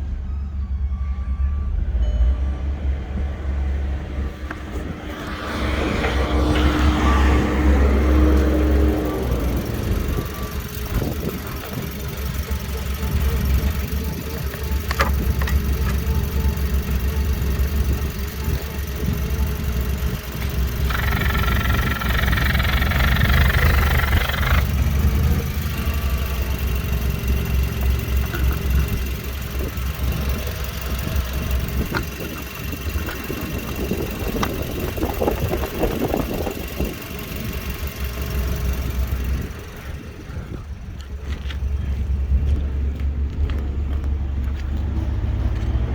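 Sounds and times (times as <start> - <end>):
high-pitched engine whine: 0.0 - 45.9
car engine running: 3.0 - 45.9.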